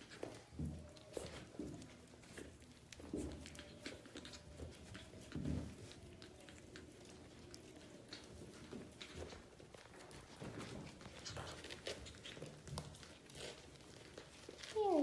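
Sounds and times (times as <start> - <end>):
small clicks and patter: 0.0 - 15.0.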